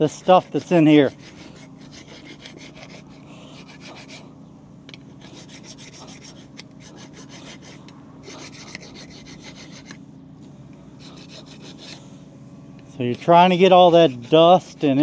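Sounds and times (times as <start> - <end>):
hand file rasping on metal: 0.0 - 4.3, 5.1 - 10.0, 11.0 - 12.1, 12.9 - 15.0.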